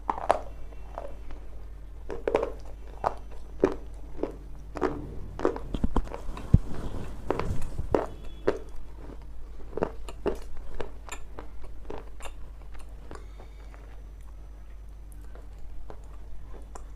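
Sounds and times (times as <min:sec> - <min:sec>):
crunchy food being chewed: 0:00.0 - 0:16.9.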